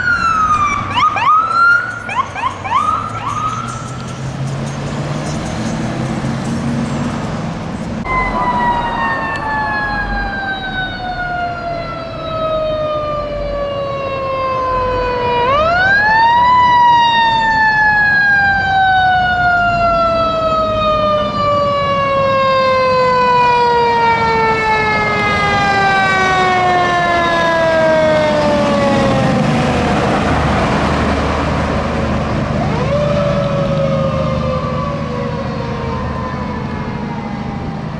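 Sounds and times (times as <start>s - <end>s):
fire truck siren wailing: 0.0s - 37.9s
traffic noise: 0.0s - 37.9s.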